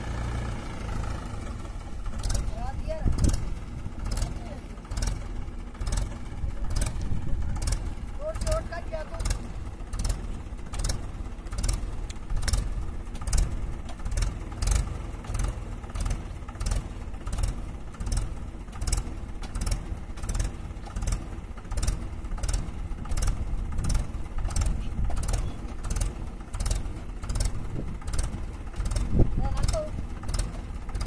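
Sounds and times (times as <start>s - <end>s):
diesel tractor engine idling: 0.0s - 31.0s.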